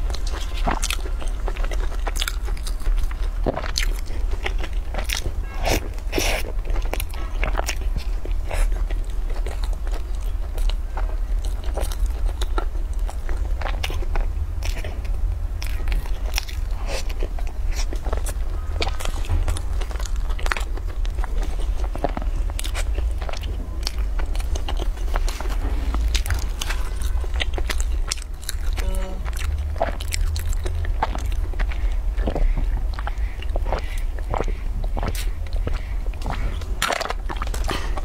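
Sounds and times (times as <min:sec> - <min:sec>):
person chewing with crunches: 0:00.0 - 0:38.0
steady low hum: 0:00.0 - 0:38.0.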